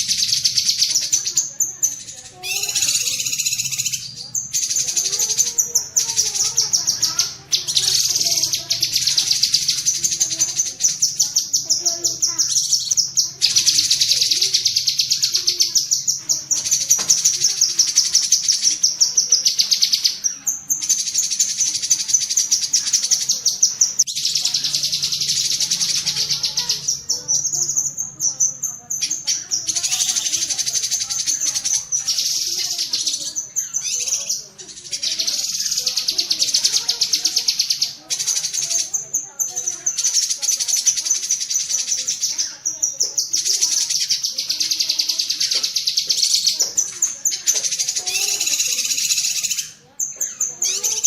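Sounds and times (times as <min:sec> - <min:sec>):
bird chattering song: 0:00.0 - 0:51.0.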